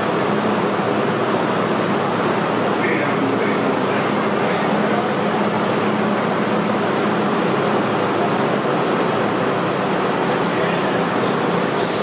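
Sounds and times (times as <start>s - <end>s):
subway car air-conditioning hum: 0.0s - 12.0s.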